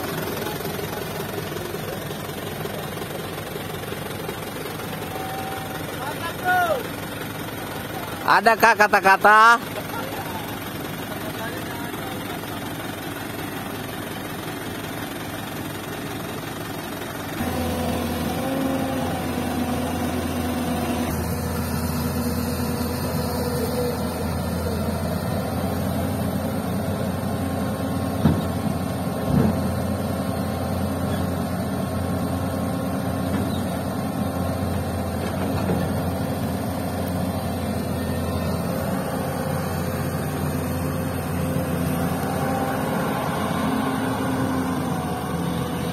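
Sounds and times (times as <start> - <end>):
excavator diesel engine running: 0.0 - 45.9
truck engine idling: 0.0 - 45.9.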